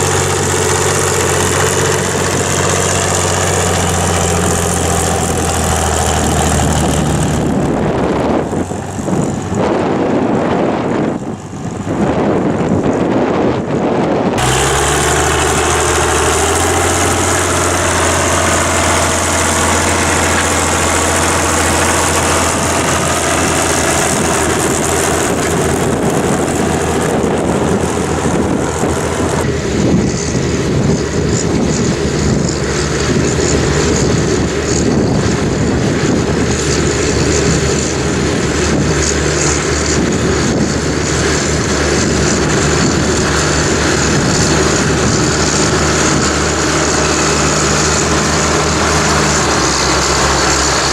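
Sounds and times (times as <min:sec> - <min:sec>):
tractor diesel engine running: 0:00.0 - 0:50.9
wind buffeting microphone: 0:00.0 - 0:50.9.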